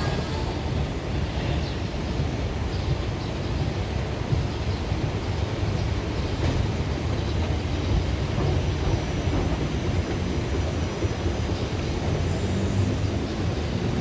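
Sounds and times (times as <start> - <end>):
train rumble and hiss: 0.0 - 14.0.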